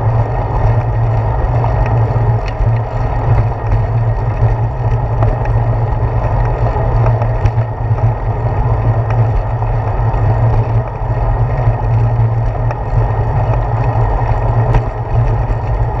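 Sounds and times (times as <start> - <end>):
bicycle road vibration: 0.0 - 16.0
wind rumble: 0.0 - 16.0.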